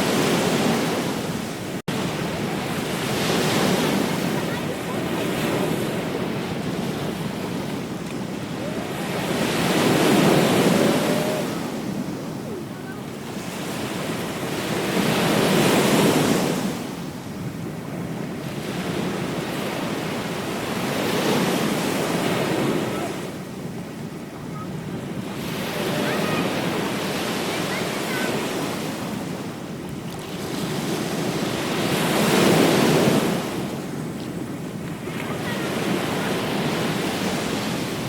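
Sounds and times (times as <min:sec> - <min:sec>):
ocean waves washing onto beach: 0:00.0 - 0:38.0
wind noise on microphone: 0:00.0 - 0:38.0.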